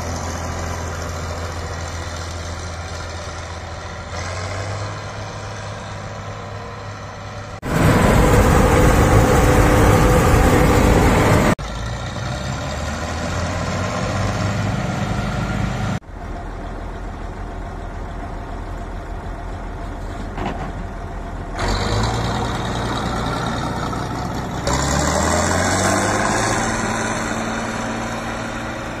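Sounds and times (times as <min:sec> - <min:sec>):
diesel engine roaring: 0:00.0 - 0:29.0.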